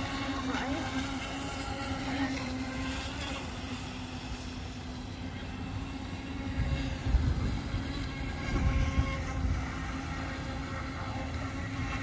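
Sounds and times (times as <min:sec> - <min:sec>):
model boat motor whining: 0:00.0 - 0:12.0.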